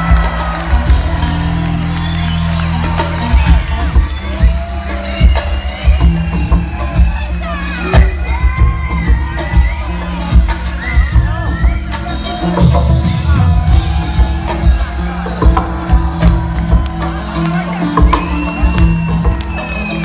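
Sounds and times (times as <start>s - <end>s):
crowd whooping and cheering: 0.0s - 20.0s
live band music: 0.0s - 20.0s.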